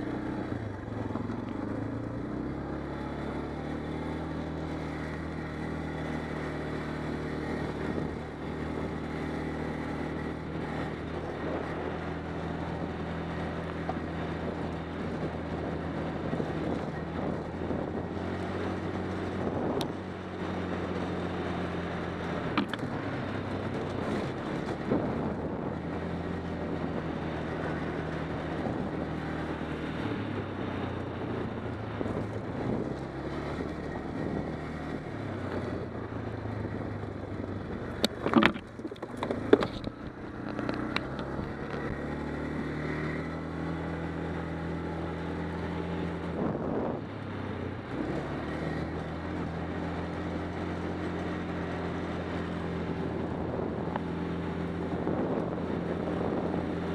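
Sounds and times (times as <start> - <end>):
quad bike engine running: 0.0 - 56.9.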